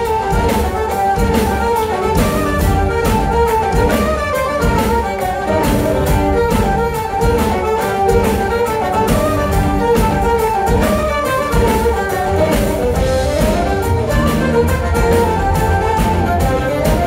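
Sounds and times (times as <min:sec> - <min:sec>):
folk band playing: 0:00.0 - 0:17.0.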